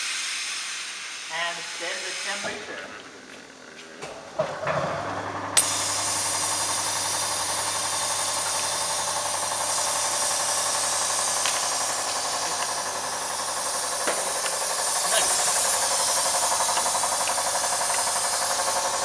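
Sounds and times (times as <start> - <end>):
rushing hiss of air: 0.0 - 2.4, 5.6 - 19.0
vacuum pump humming: 0.9 - 19.0.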